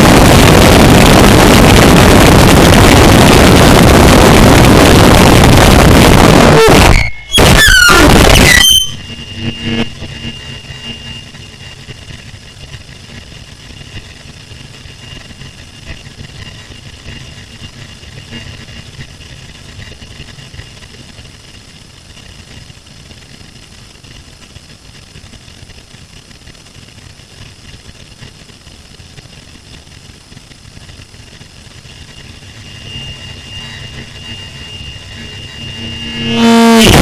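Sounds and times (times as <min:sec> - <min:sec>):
low rumbling drone: 0:00.0 - 0:24.4, 0:25.2 - 0:37.0
thin high whine: 0:00.0 - 0:37.0.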